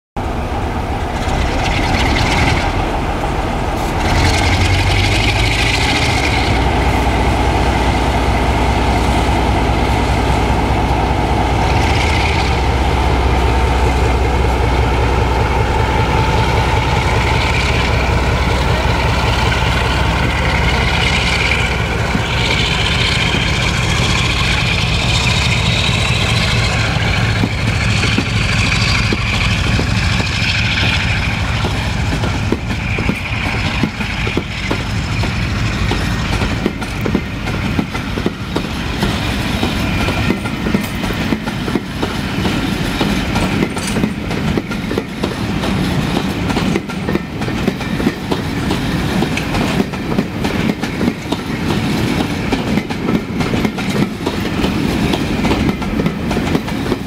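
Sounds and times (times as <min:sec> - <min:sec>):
diesel locomotive engine under load: 0:00.2 - 0:57.0.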